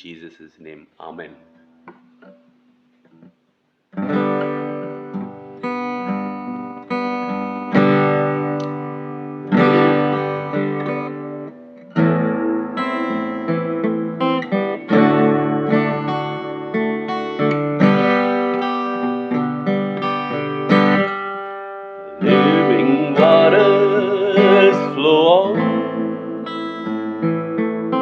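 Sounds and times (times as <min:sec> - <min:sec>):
guitar chords strummed: 0:04.0 - 0:28.0.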